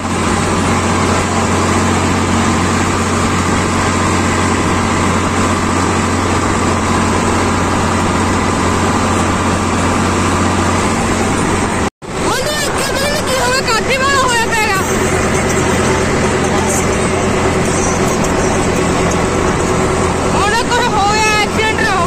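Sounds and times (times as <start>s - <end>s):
tractor diesel engine running: 0.0s - 22.0s
wind and road noise: 0.0s - 22.0s.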